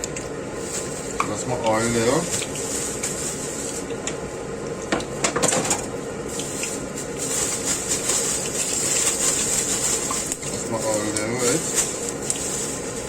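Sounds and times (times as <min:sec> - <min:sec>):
kitchen extractor fan: 0:00.0 - 0:13.0.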